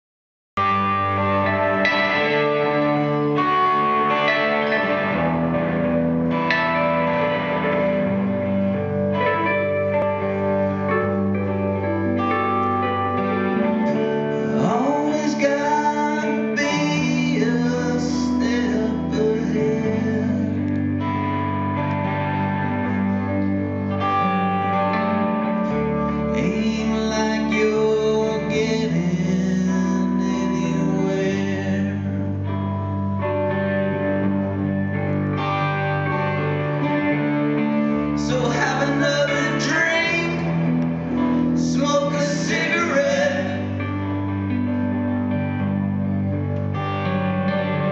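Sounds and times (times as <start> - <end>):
live rock band playing: 0.6 - 47.9
sliding guitar notes: 0.6 - 47.9.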